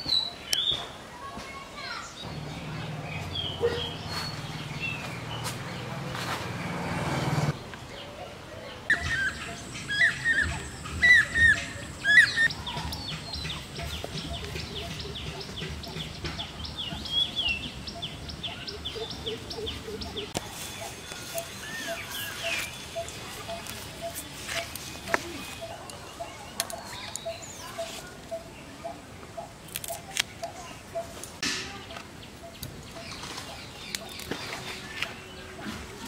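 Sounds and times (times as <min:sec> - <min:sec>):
birds chirping: 0:01.8 - 0:36.0.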